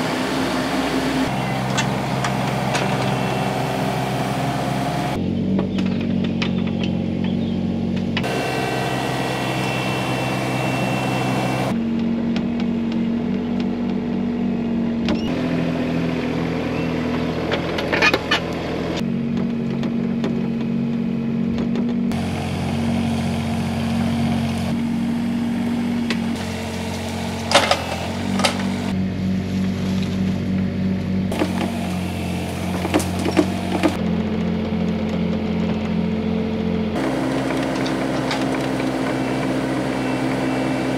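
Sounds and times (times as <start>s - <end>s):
diesel engine under load: 0.0s - 40.9s.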